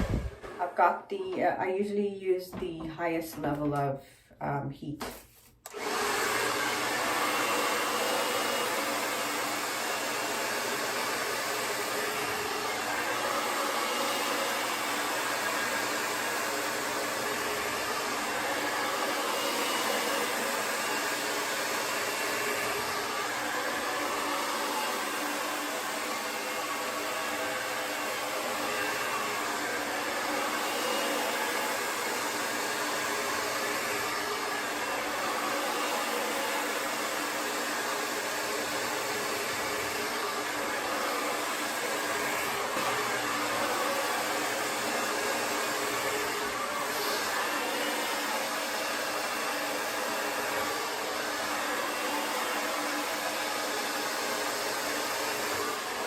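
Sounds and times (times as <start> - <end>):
hair dryer running: 0.0 - 3.8, 5.0 - 56.0.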